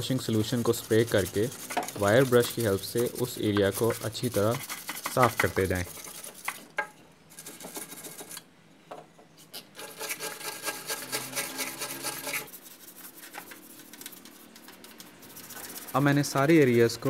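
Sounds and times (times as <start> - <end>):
wire brush scrubbing metal: 0.0 - 6.7, 9.8 - 17.0.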